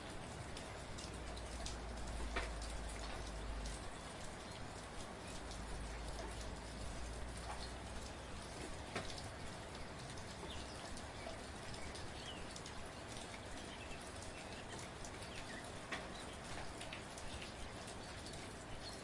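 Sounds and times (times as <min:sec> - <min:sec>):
gentle rain with ticking drops: 0:00.0 - 0:19.0.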